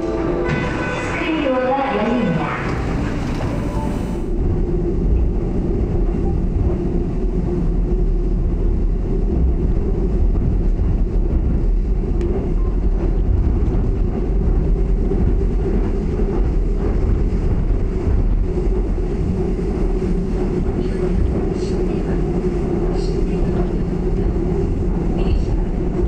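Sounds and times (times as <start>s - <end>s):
train rumble from inside car: 0.0s - 26.0s.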